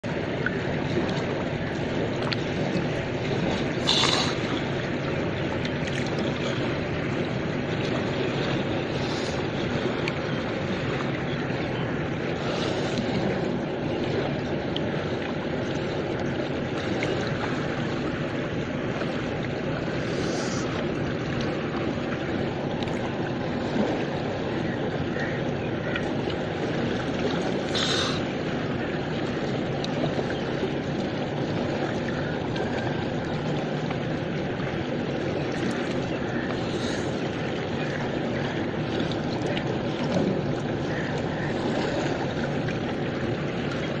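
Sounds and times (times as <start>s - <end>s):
river water flowing: 0.0s - 44.0s.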